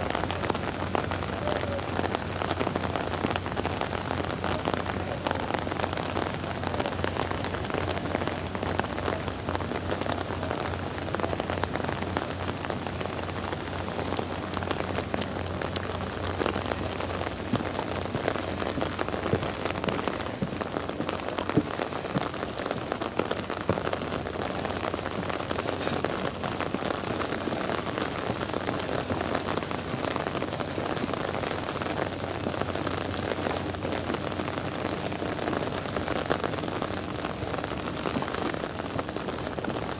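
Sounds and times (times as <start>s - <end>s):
close raindrops ticking: 0.0s - 39.9s
steady rain falling: 0.0s - 39.9s.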